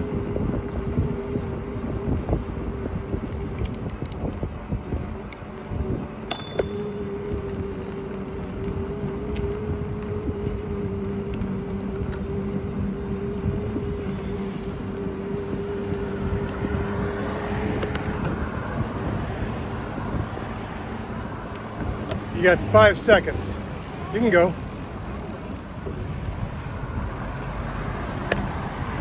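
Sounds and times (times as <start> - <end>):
bicycle tyres on pavement: 0.0 - 29.0
road traffic passing: 0.0 - 29.0
steady whine: 0.0 - 29.0
wind rumbling on microphone: 0.0 - 29.0.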